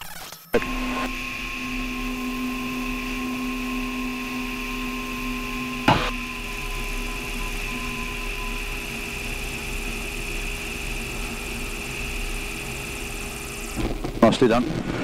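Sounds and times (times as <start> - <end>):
aircraft motor and propeller whine: 0.6 - 15.0.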